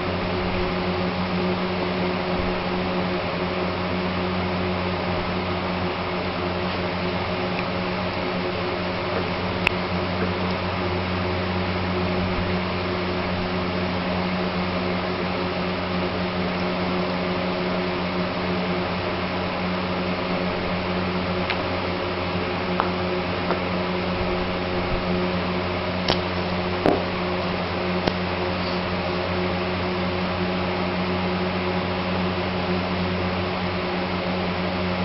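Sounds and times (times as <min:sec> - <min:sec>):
fan humming: 0:00.0 - 0:35.0.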